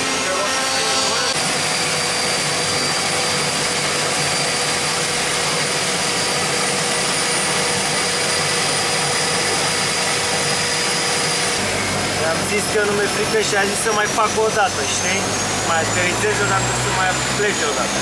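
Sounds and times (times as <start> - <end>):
aircraft engines droning: 0.0 - 18.0
steady whining tones: 0.0 - 18.0.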